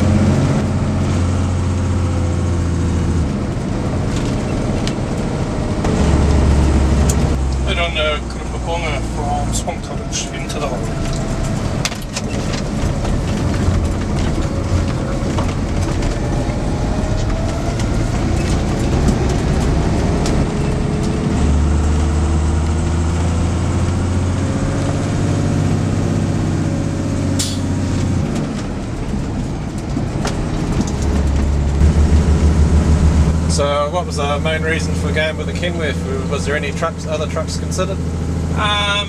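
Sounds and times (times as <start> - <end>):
truck diesel engine drone: 0.0 - 39.0.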